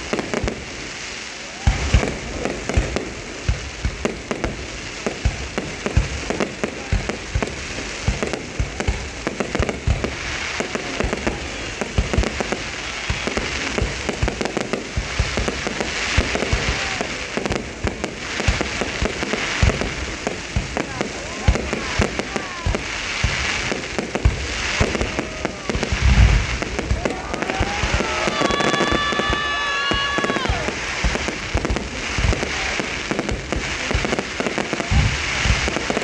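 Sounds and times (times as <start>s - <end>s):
crackling hiss of bursting shells: 0.0s - 36.0s
fireworks bangs and booms: 0.0s - 36.0s.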